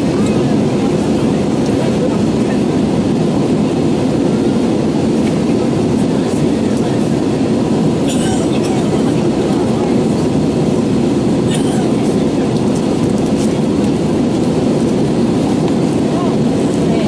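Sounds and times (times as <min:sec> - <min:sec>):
airplane cabin engine roar: 0:00.0 - 0:17.0.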